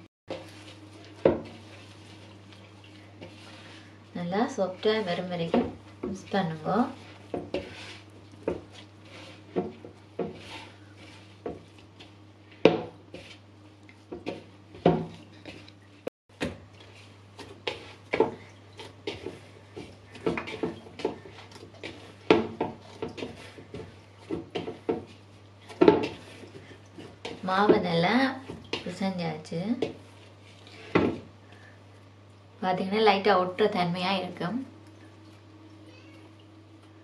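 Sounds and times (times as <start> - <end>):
hands kneading dough in a bowl: 0.3 - 37.0.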